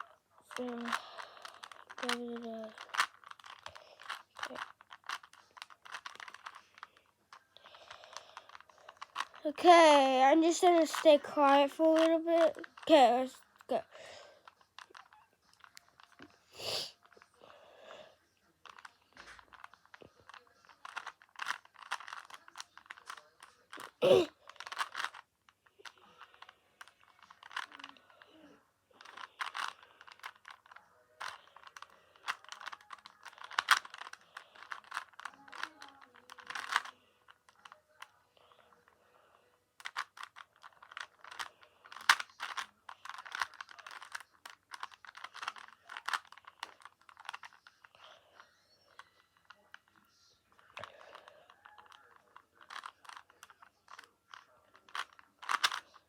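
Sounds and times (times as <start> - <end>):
puzzle cube plastic clicking: 0.0 - 17.5, 18.6 - 39.0, 39.7 - 56.0.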